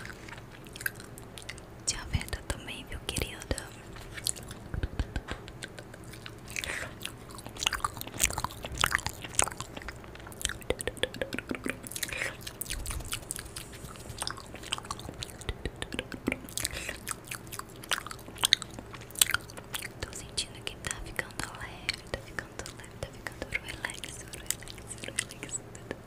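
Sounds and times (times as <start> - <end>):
mock chewing: 0.0 - 2.4, 3.1 - 26.0
tongue clicks: 3.2 - 20.2, 21.4 - 26.0
wet lip smacks: 3.5 - 20.2, 21.4 - 26.0.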